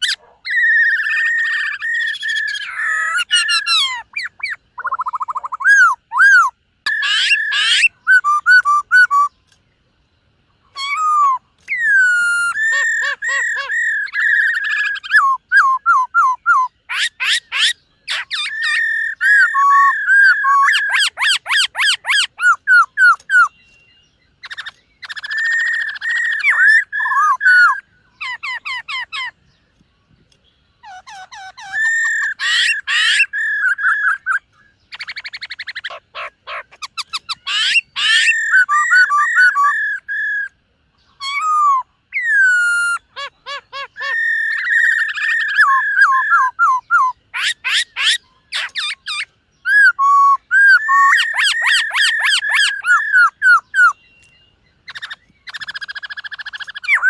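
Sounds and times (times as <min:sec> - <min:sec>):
bird singing whistled phrases: 0:00.0 - 0:09.5, 0:10.7 - 0:29.3, 0:30.8 - 0:57.0.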